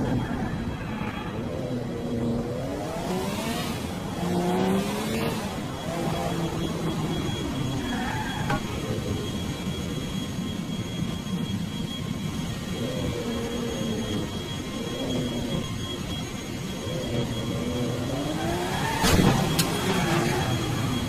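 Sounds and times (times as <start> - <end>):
steady engine-like rushing: 0.0 - 21.0.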